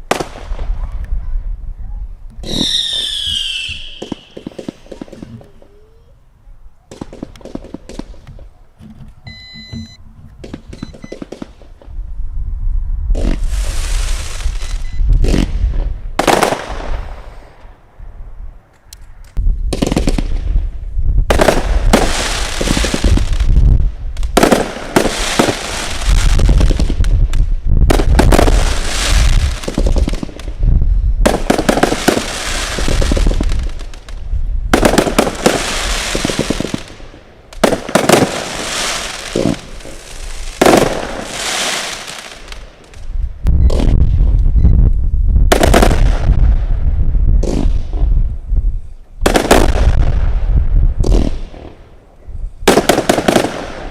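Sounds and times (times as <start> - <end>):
fireworks firing and crackling: 0.0 - 1.2, 2.4 - 6.0, 6.8 - 8.6, 10.3 - 12.0, 13.1 - 17.8, 19.3 - 52.0, 52.6 - 53.9.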